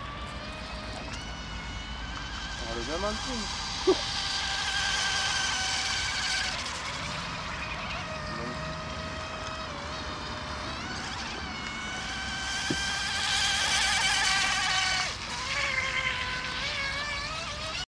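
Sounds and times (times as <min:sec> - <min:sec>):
rc boat motor whining: 0:00.0 - 0:17.9.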